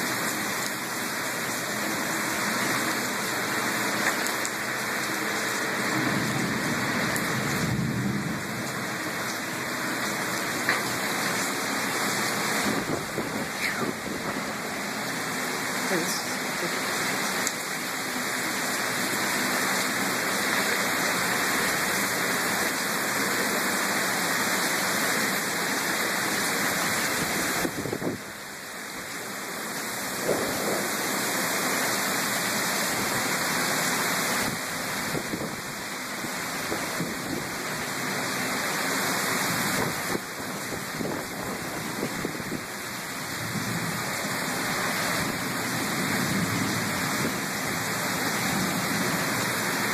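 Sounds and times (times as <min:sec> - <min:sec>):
heavy rain on pavement: 0:00.0 - 0:49.9.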